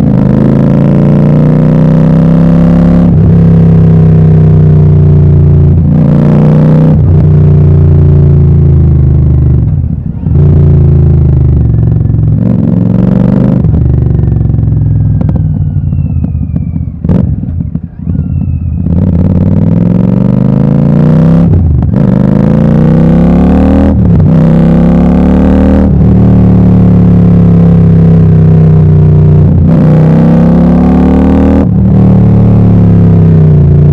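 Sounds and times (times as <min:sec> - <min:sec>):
motorcycle accelerating through gears: 0:00.0 - 0:33.9.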